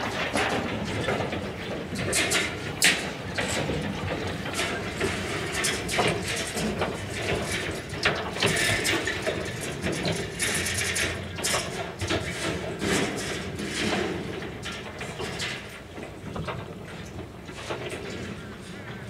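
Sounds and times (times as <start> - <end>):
clanks and knocks on metal crates: 0.0 - 19.0
hoof clatter on metal: 0.0 - 19.0.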